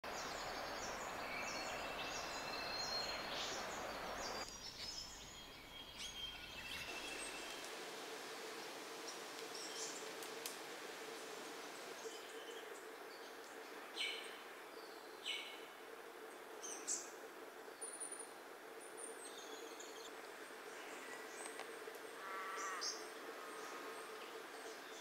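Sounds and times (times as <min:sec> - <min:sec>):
steady background hiss: 0:00.1 - 0:25.0.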